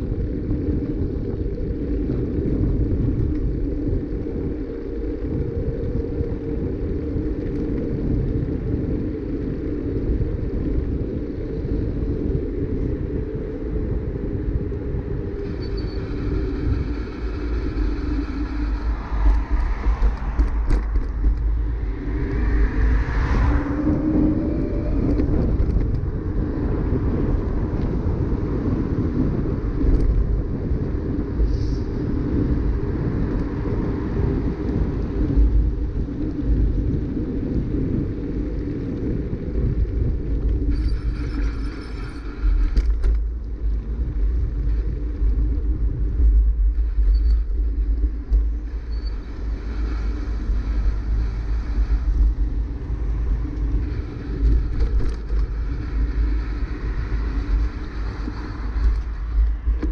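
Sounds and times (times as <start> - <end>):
bicycle tyre rumble on asphalt: 0.0 - 59.9
wind buffeting microphone: 0.0 - 59.9.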